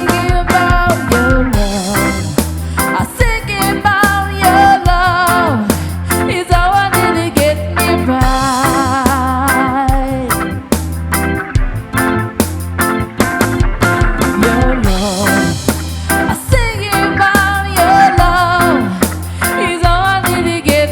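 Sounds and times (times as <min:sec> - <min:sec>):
reggae band music: 0:00.0 - 0:20.9.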